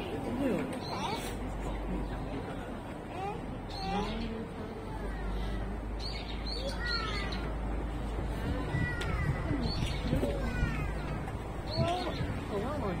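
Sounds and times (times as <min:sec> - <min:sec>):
birds calling: 0:00.7 - 0:04.6, 0:05.2 - 0:07.8, 0:08.6 - 0:13.0.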